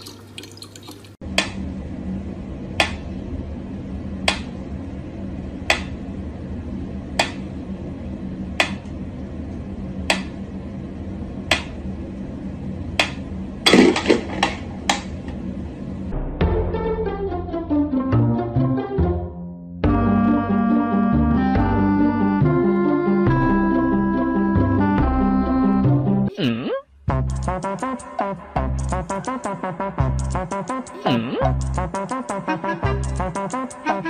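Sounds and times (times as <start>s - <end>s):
steady low hum: 1.2s - 17.4s, 19.8s - 34.0s.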